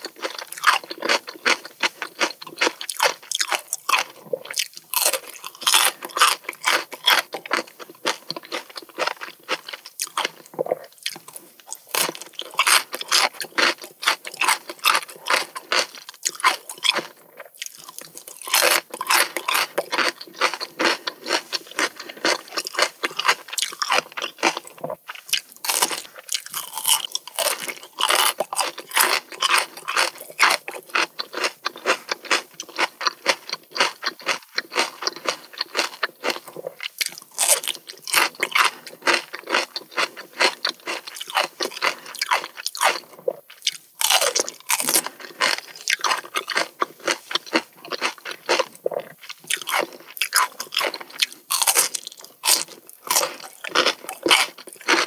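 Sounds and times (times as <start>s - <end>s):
crunching and chewing melon: 0.0s - 55.0s.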